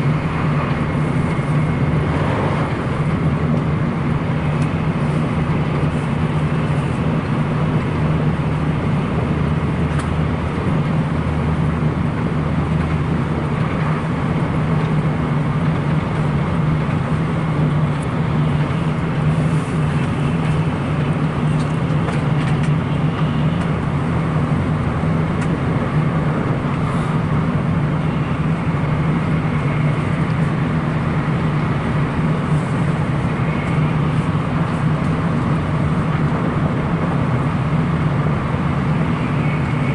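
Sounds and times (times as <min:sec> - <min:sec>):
train running at speed: 0:00.0 - 0:39.9.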